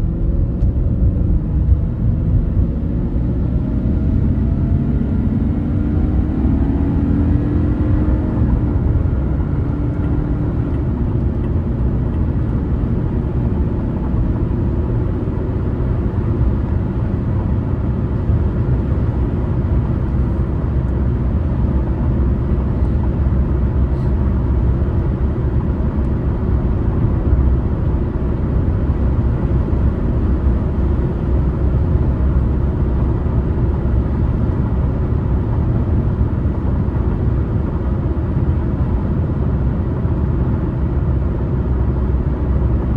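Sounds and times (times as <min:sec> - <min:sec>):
car driving on highway: 0:00.0 - 0:42.9.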